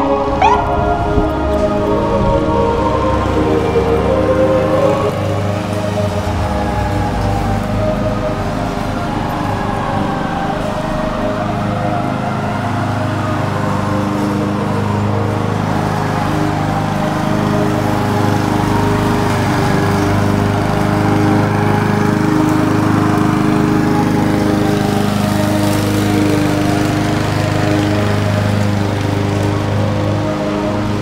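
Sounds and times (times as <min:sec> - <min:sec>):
lawn mower running: 0:02.7 - 0:31.0.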